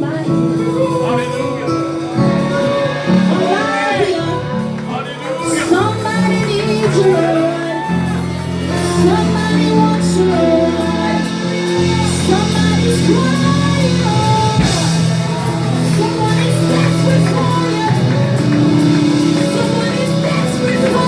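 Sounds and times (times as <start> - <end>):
keyboard and bass chords: 0.0 - 21.0
voices singing: 0.0 - 21.0.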